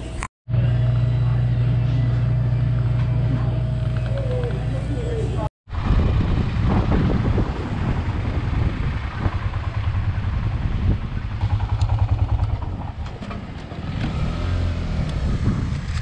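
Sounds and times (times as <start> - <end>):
motorcycle engine running: 0.5 - 13.6.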